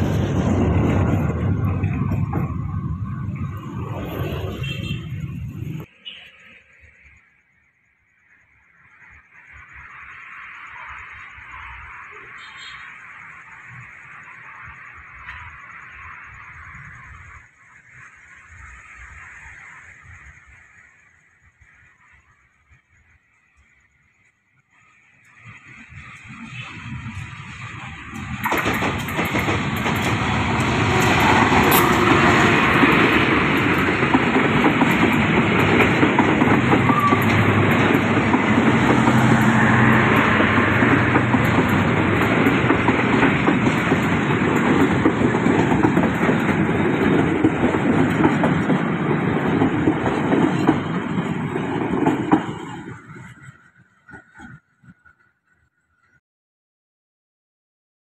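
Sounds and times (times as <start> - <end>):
train wheels rumbling on rails: 0.0 - 6.0, 11.2 - 55.6
diesel locomotive passing: 0.0 - 7.4, 8.7 - 56.2.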